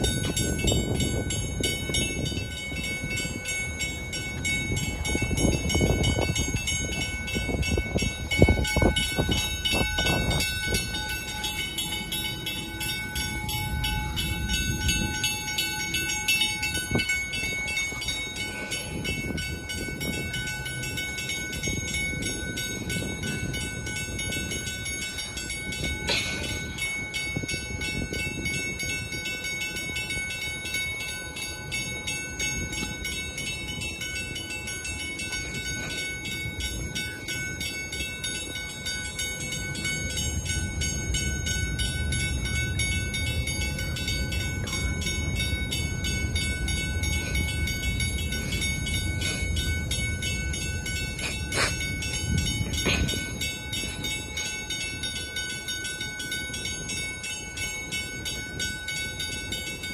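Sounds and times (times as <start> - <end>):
warning bells ringing: 0.0 - 59.9.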